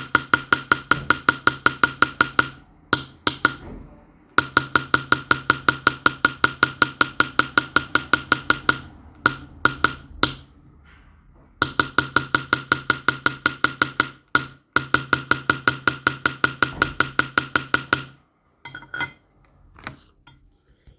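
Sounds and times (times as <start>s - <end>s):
small hammer tapping on metal: 0.0s - 3.7s, 4.4s - 10.5s, 11.6s - 19.2s.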